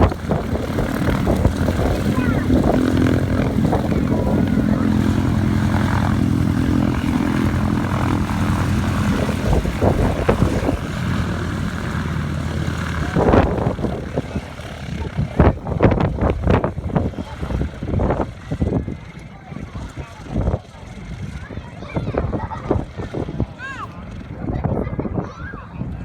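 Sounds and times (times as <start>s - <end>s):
propeller aircraft engine running: 0.0s - 26.0s.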